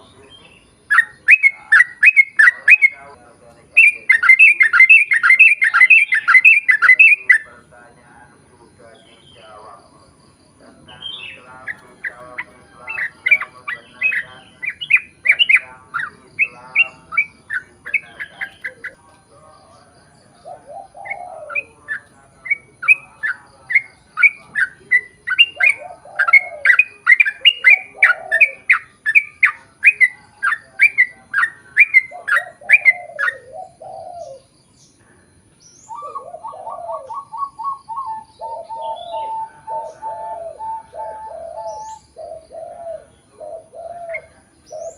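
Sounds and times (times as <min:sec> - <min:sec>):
coo-like bird call: 0:00.0 - 0:34.6, 0:35.7 - 0:44.9
bird singing rapid sweeping notes: 0:00.0 - 0:44.9
soft warbled bird phrases: 0:00.0 - 0:44.9.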